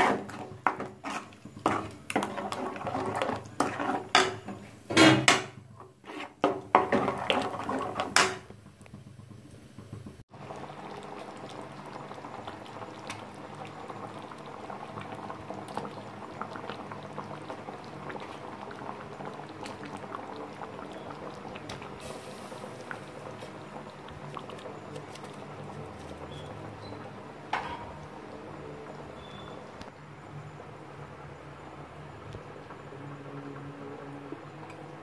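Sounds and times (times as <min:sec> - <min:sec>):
curry bubbling and popping: 0:00.0 - 0:35.0.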